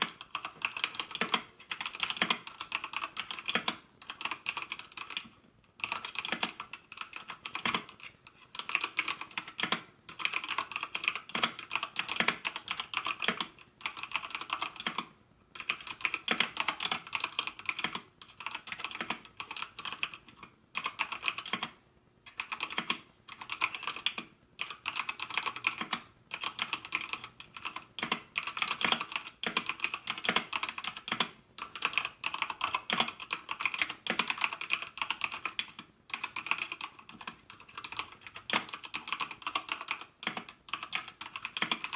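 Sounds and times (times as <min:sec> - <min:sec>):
mechanical keyboard typing: 0:00.0 - 0:41.9.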